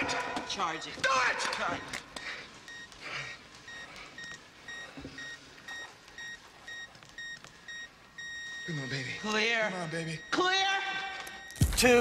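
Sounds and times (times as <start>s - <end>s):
defibrillator charging beeps: 1.4s - 12.0s.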